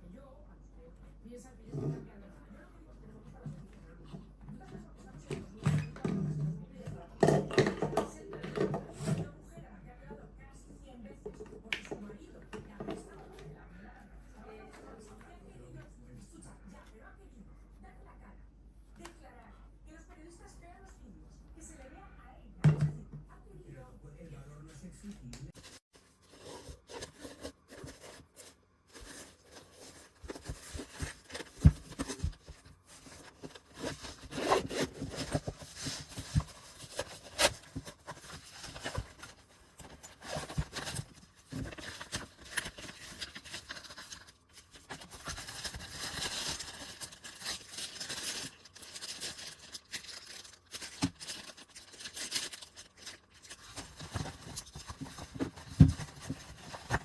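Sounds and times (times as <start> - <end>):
scraping and rustling handling noise: 0.9 - 9.4, 11.1 - 16.9, 24.3 - 57.0.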